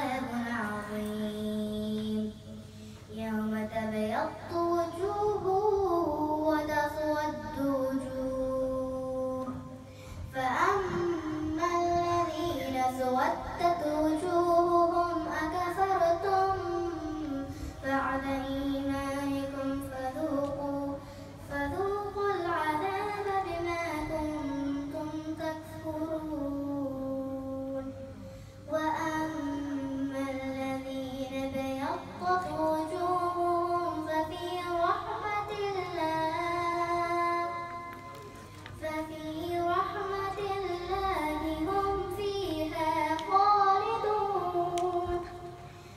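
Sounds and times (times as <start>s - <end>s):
girl chanting melodically: 0.0s - 45.8s.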